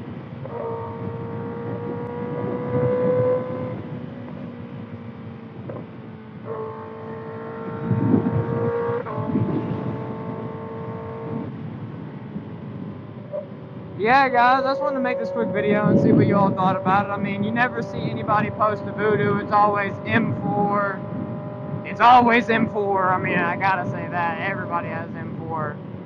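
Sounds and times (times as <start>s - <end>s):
wind buffeting microphone: 0.0s - 6.5s, 7.5s - 26.0s
motorcycle engine at high revs: 0.0s - 26.0s.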